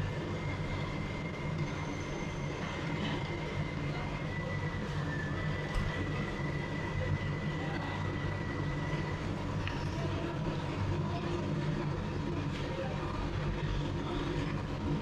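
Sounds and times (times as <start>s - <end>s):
low mechanical rumble and hum: 0.0s - 15.0s.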